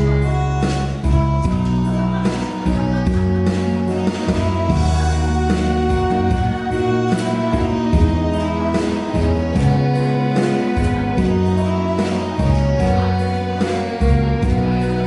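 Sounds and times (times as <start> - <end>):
instrumental music with steady beat: 0.0 - 15.0.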